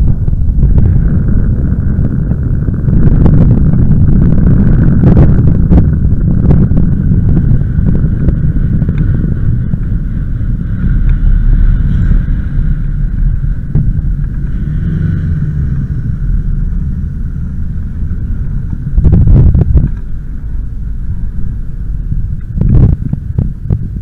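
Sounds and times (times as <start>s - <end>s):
low road rumble: 0.0s - 24.0s
wind rushing over microphone: 0.0s - 24.0s.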